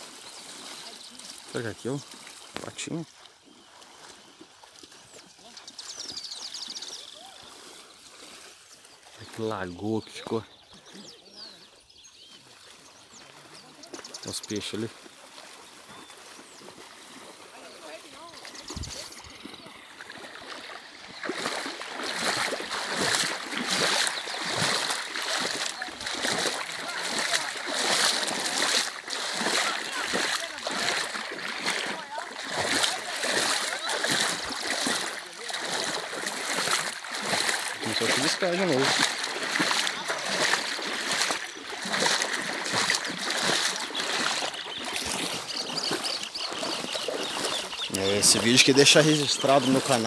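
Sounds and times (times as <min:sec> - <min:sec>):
person wading through water: 0:00.0 - 0:50.0.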